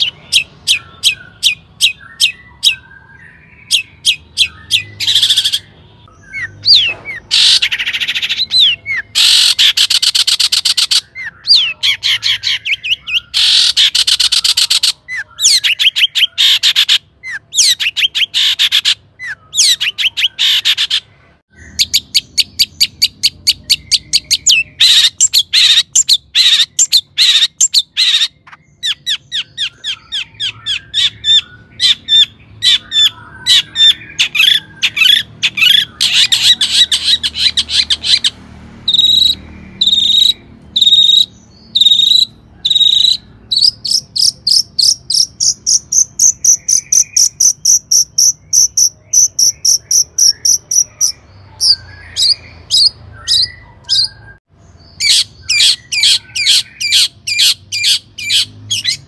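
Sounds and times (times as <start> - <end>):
shrike singing sharp repeated notes: 0.0 - 54.2
bird harsh rasping chatter: 0.0 - 54.3, 55.0 - 59.0.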